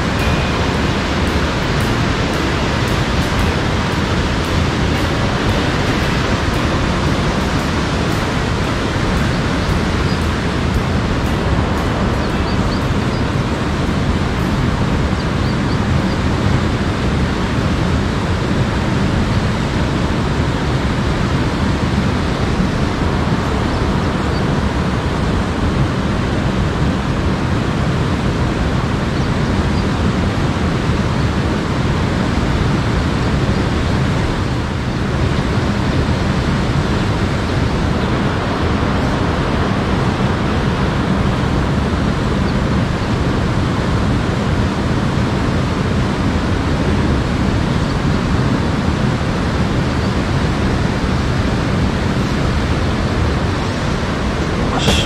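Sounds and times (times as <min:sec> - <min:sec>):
river water rushing: 0:00.0 - 0:28.8, 0:30.1 - 0:55.0.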